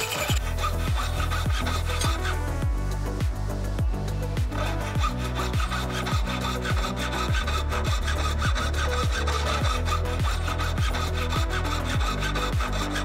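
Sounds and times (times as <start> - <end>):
saw rasping through metal: 0.0 - 3.1, 4.0 - 13.0
bass line: 0.4 - 13.0
music with kick-drum beat: 0.8 - 12.8.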